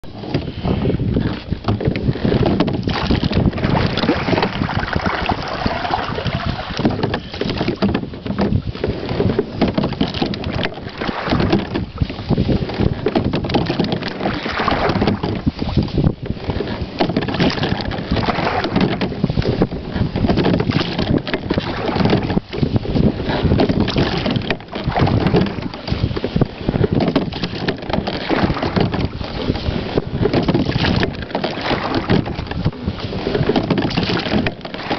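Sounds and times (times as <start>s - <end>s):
water along hull: 0.0s - 34.9s
wind buffeting microphone: 0.0s - 34.9s.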